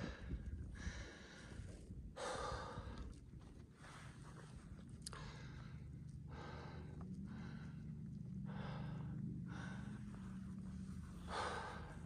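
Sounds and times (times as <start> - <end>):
person breathing hard: 0.0 - 3.2, 5.1 - 12.0
faint low hum: 0.0 - 12.0.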